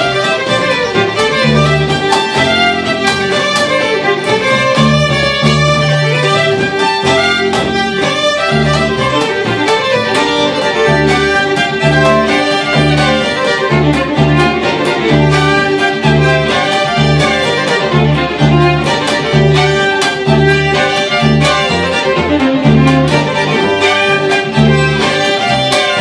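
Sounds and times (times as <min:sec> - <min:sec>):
fiddles playing folk tune: 0:00.0 - 0:26.0
plucked double bass: 0:00.0 - 0:26.0.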